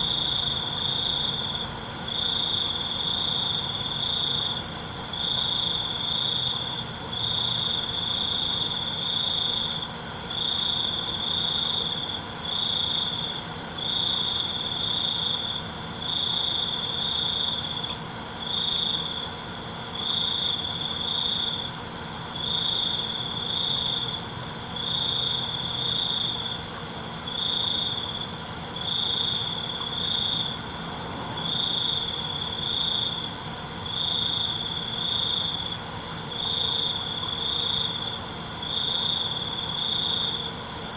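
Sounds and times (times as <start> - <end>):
high insect drone: 0.0 - 40.9
higher pulsing insect trill: 0.0 - 40.9
loud cricket trill: 0.0 - 40.9.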